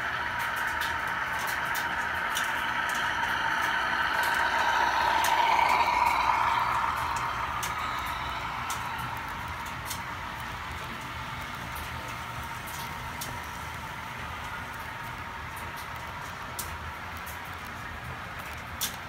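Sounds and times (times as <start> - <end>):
model train running: 0.0 - 19.0
wheels clicking on track: 0.0 - 19.0.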